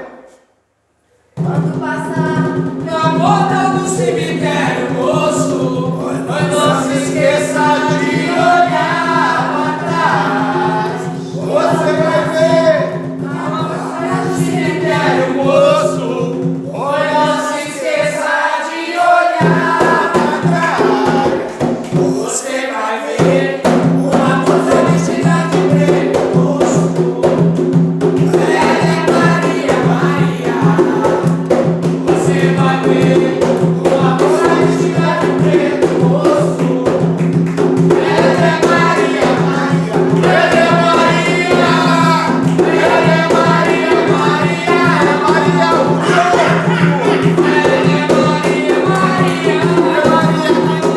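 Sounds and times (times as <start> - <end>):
percussion: 1.1 - 50.9
group of voices chanting: 2.9 - 27.5, 28.2 - 37.2, 37.8 - 50.9.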